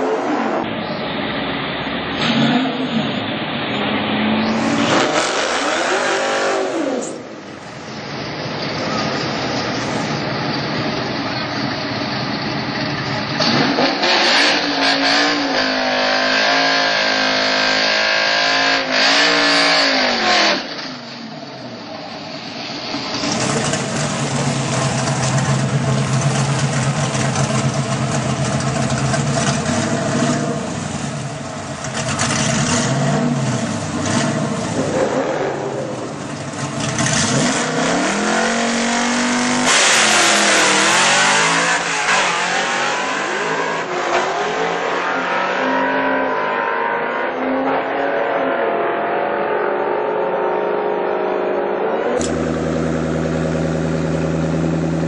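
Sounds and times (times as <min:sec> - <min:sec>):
drag car engine revving: 0:00.0 - 0:55.0.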